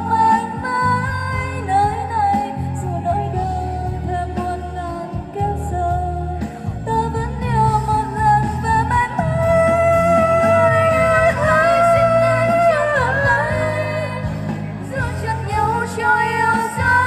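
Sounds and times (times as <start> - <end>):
amplified backing music with bass: 0.0 - 17.0
woman singing into a microphone: 0.0 - 17.0.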